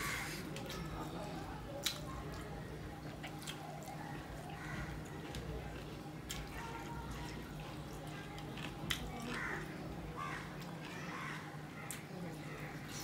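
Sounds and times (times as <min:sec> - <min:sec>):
wet squishing of food: 0:00.0 - 0:13.0.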